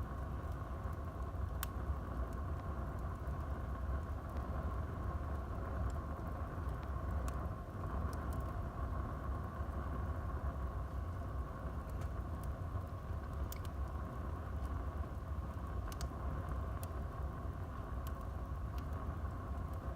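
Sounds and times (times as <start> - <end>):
burning wood crackling and popping: 0.0 - 19.9
fire flames rushing: 0.0 - 19.9.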